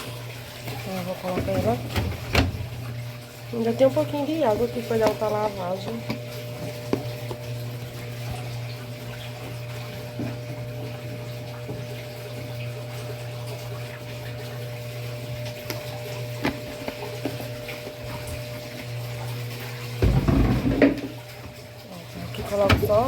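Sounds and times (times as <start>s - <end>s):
washing machine motor hum: 0.0s - 23.0s
water moving inside machine: 0.0s - 23.0s.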